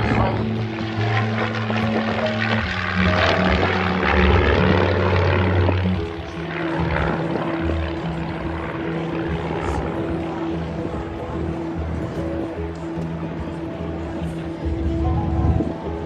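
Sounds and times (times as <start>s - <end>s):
propeller aircraft engines droning: 0.0s - 16.0s.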